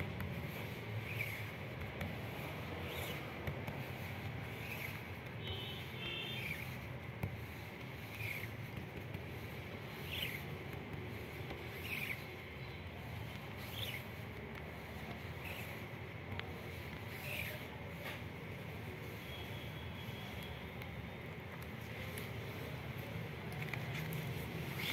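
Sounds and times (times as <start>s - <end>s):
squeegee scraping on mesh: 0.0s - 21.0s.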